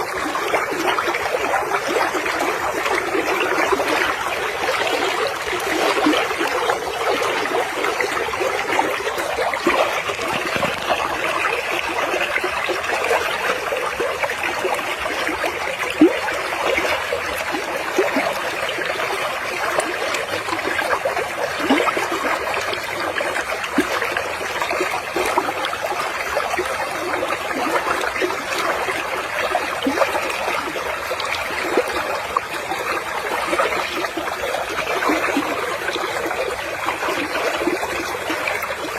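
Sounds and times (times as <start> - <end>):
water trickling and flowing: 0.0 - 38.9.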